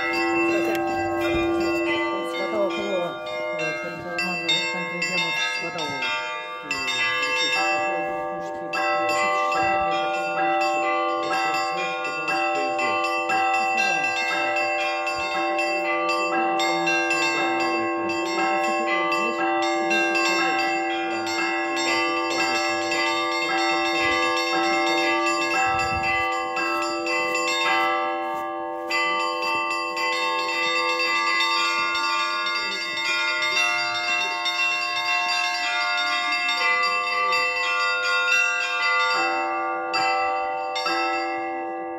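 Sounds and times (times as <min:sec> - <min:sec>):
church bells pealing: 0:00.0 - 0:41.9
low bell ringing: 0:00.0 - 0:41.9.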